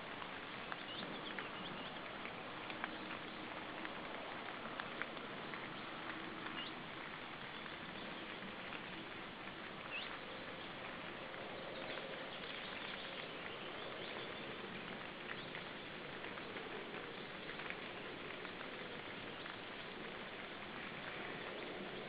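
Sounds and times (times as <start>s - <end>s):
faint ticks: 0.0s - 22.0s
light patter: 0.0s - 22.0s
steady hiss: 0.0s - 22.0s.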